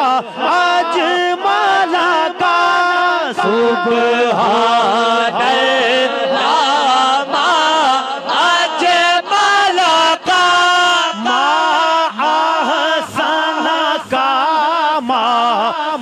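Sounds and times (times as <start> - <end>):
man chanting into microphone: 0.0 - 16.0.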